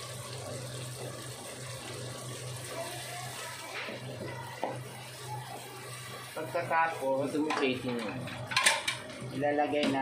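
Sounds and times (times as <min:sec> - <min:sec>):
sauce simmering in a pot: 0:00.0 - 0:10.0.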